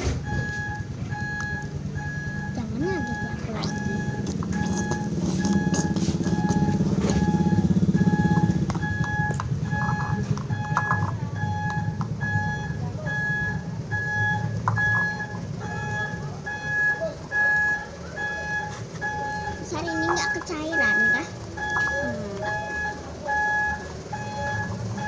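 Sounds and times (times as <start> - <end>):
truck engine rumble: 0.0 - 25.0
truck reversing alarm beeping: 0.0 - 25.0.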